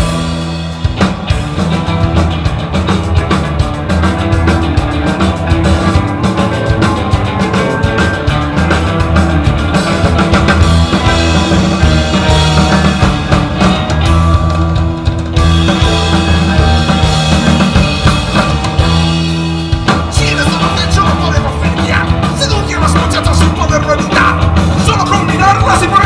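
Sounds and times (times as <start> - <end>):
drum kit beat: 0.0 - 26.0
electric guitars: 0.0 - 26.0.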